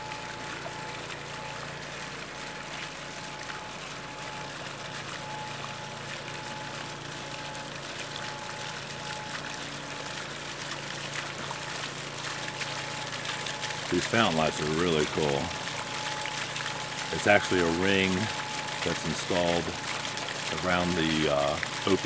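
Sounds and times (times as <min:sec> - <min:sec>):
fountain water trickling on stone: 0:00.0 - 0:22.0.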